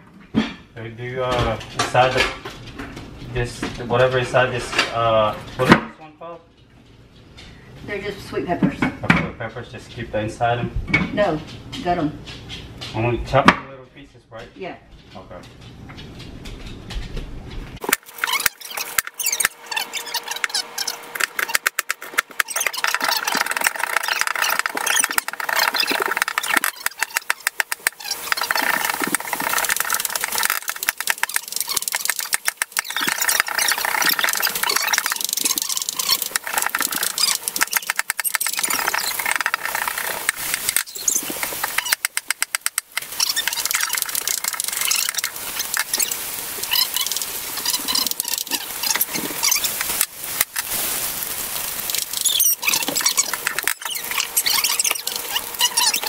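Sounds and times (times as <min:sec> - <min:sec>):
continuous hiss: 0:00.0 - 0:56.0.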